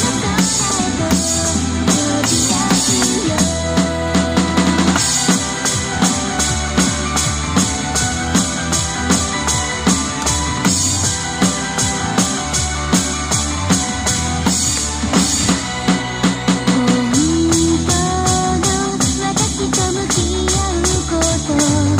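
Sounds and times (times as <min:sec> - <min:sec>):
drum kit playing a beat: 0:00.0 - 0:21.9
recorded pop song: 0:00.0 - 0:21.9.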